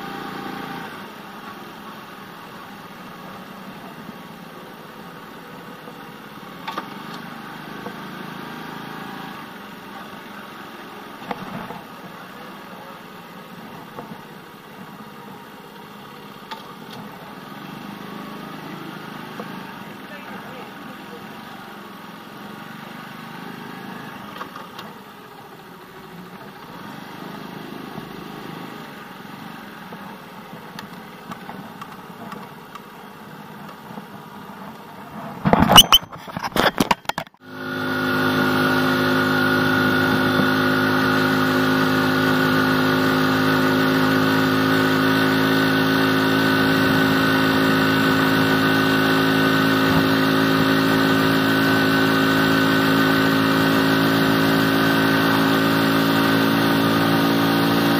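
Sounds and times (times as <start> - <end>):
motorcycle engine running: 0.0 - 57.9
street noise: 0.0 - 57.9.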